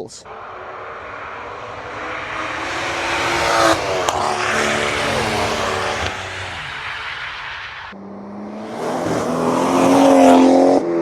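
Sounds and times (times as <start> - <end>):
car driving past at speed: 0.3 - 11.0.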